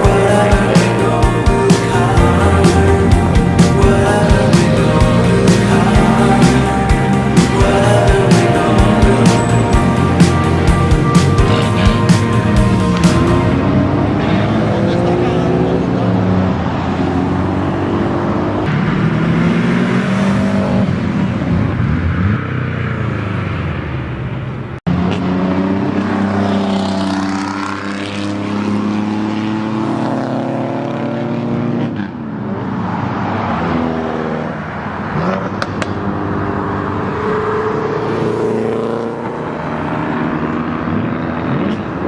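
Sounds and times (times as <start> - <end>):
car engines revving: 0.0 - 42.0.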